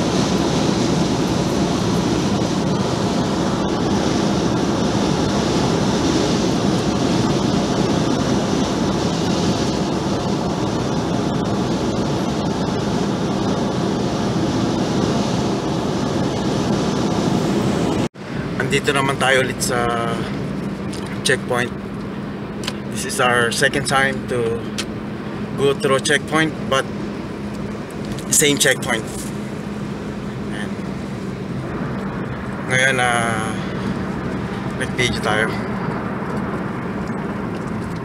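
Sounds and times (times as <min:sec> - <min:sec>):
road and tyre noise: 0:00.0 - 0:38.0
wind rush: 0:00.0 - 0:38.0.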